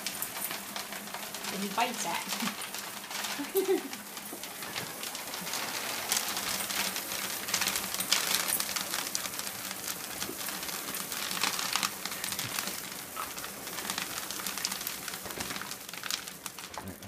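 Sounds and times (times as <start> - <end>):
dry kibble pouring into plastic bin: 0.0 - 17.0.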